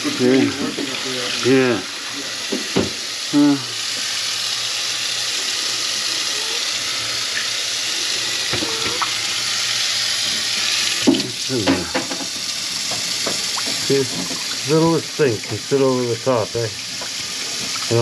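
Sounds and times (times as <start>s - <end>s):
tap water running into sink: 0.0s - 18.0s.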